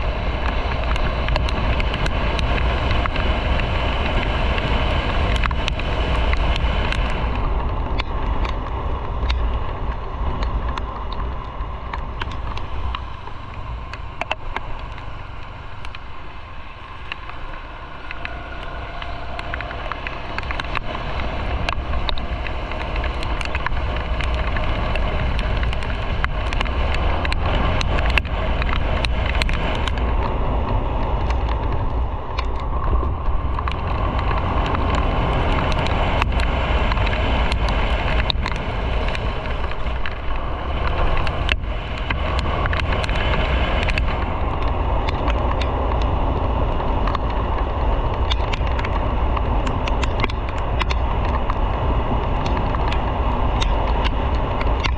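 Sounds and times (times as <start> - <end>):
motorcycle engine: 0.0 - 54.9
sharp ticks and knocks: 0.0 - 54.9
wind and road noise: 0.0 - 54.9.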